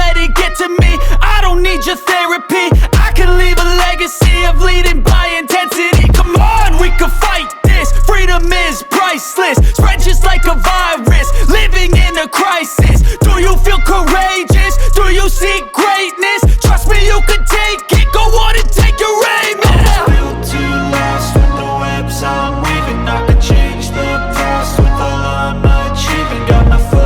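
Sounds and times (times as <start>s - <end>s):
hip hop music with heavy bass: 0.0s - 27.0s
vocal line: 0.0s - 27.0s.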